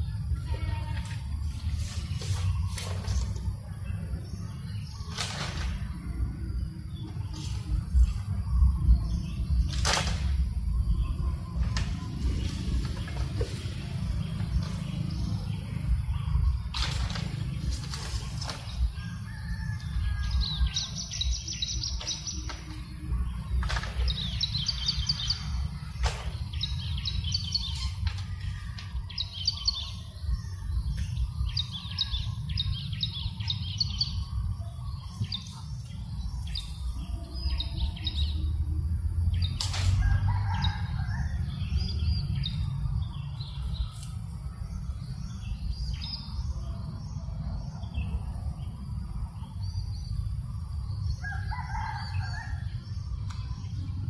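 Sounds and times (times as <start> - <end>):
low rumble of breeze: 0.0 - 54.0
small birds chirping: 0.0 - 54.0.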